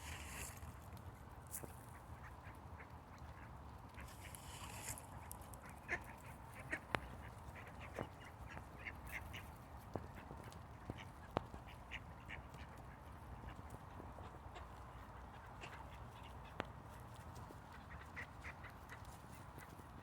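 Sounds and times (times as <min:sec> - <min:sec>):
ducks quacking: 0:01.6 - 0:19.8.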